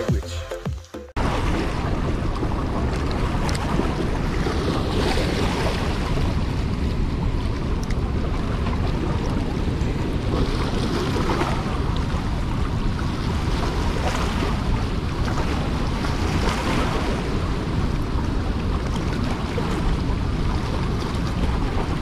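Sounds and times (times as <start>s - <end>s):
wind buffeting microphone: 1.2s - 22.0s.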